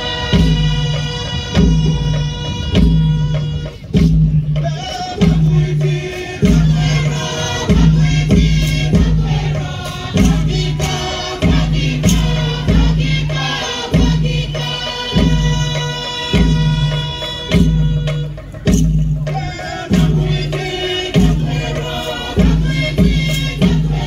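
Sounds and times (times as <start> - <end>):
group singing together: 0.0 - 3.7, 4.6 - 18.6, 19.2 - 24.0
deep drum beats: 0.0 - 24.0.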